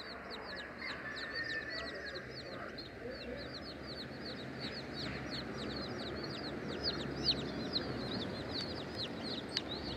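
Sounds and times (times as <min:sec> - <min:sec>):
chicks peeping: 0:00.0 - 0:09.9.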